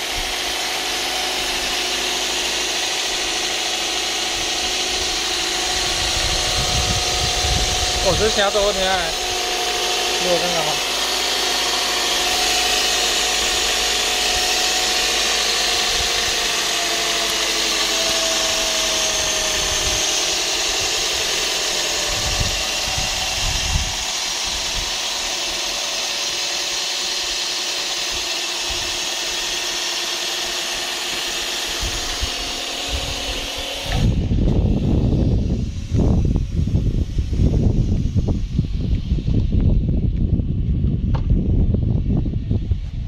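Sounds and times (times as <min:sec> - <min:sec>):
car engine running: 0:00.0 - 0:43.0
low rumbles: 0:00.0 - 0:43.0.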